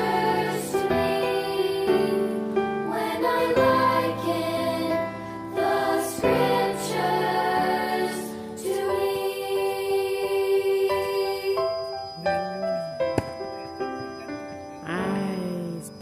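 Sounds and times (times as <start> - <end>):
choir singing slow song: 0.0 - 13.3.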